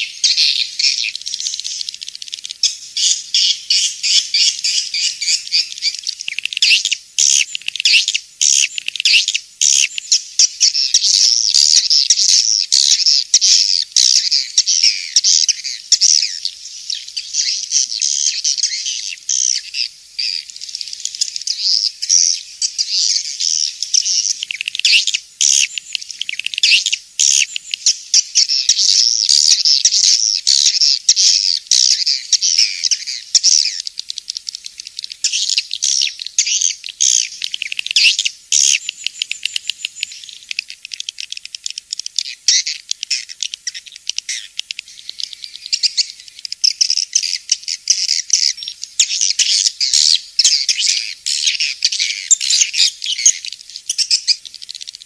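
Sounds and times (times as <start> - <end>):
swiftlet chirps and twitters: 0.0 - 55.0.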